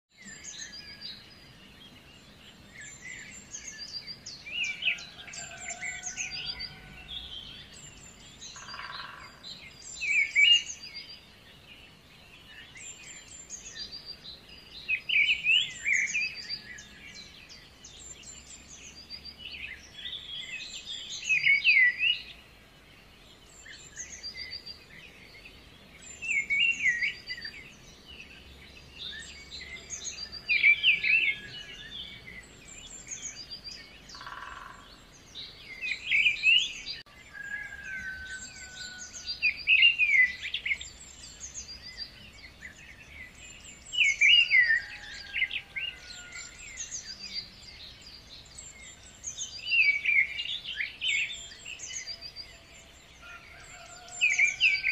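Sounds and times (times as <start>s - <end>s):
birds chirping and singing: 0.1s - 54.9s.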